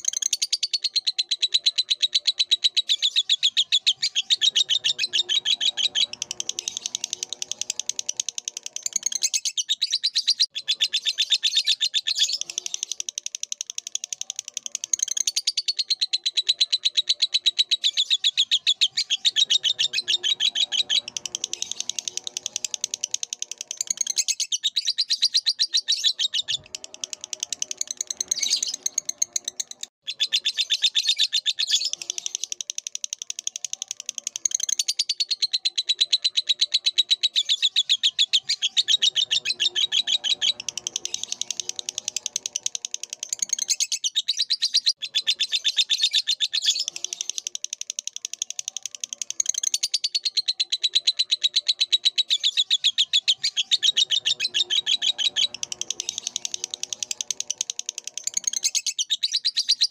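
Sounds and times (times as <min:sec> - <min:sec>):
bird chattering trill: 0:00.0 - 0:59.9.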